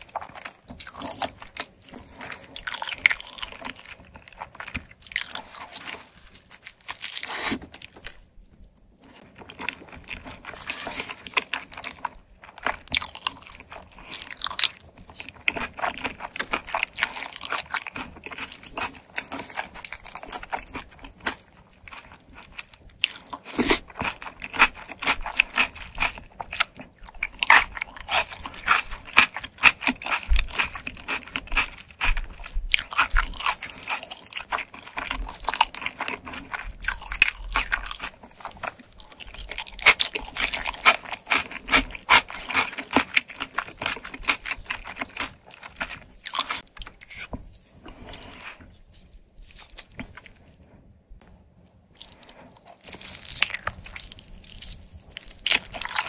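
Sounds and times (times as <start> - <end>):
chewing crunching: 0.0 - 50.4, 51.9 - 56.0.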